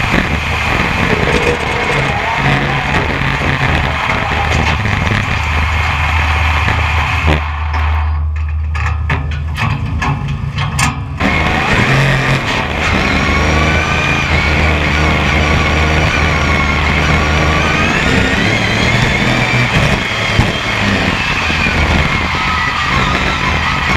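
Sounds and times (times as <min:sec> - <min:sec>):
race car engine idling and revving: 0:00.0 - 0:23.9.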